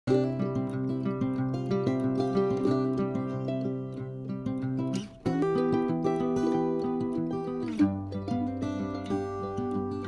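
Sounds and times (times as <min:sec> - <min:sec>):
acoustic guitar picking: 0:00.1 - 0:10.0.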